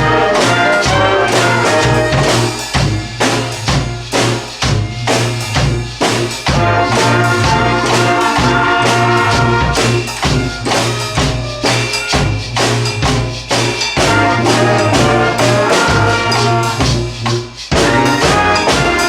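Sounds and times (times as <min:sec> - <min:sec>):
brass band playing: 0:00.0 - 0:19.0
steady drum beat: 0:00.0 - 0:19.0.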